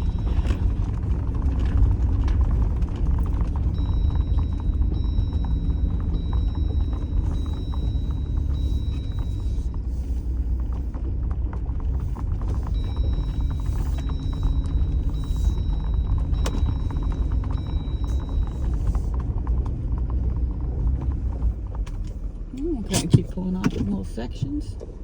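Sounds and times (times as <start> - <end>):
engine and tyres rumbling: 0.0 - 25.0.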